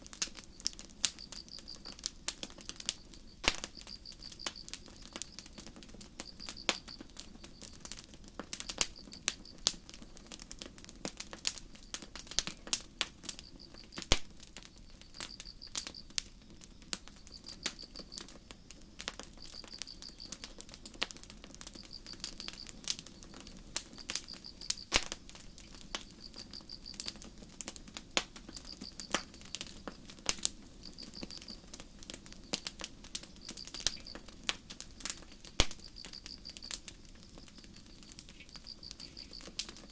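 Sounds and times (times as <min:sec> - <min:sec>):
campfire crackling and popping: 0:00.0 - 0:39.9
crickets chirping: 0:00.1 - 0:10.3, 0:11.1 - 0:39.9.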